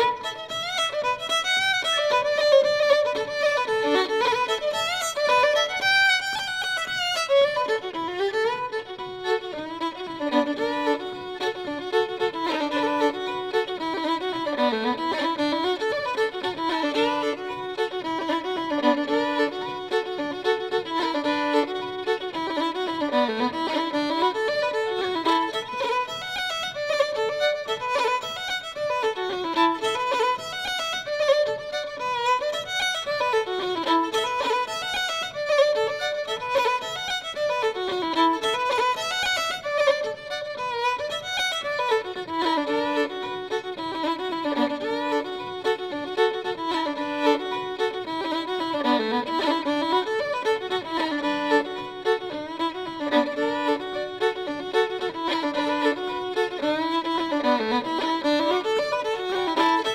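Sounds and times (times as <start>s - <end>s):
fast fiddle melody: 0.0s - 59.9s.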